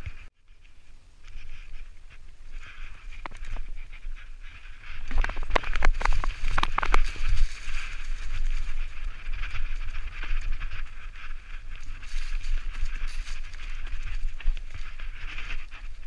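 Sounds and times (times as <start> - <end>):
wind rumble on microphone: 0.0 - 16.0
bike rattling over rocks: 2.6 - 16.0.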